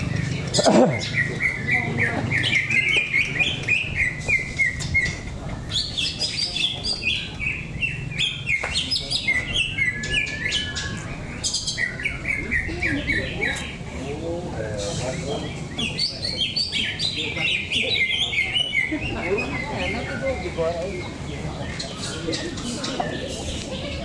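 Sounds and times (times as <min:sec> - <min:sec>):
birds whistling and chirping: 0:00.0 - 0:24.0.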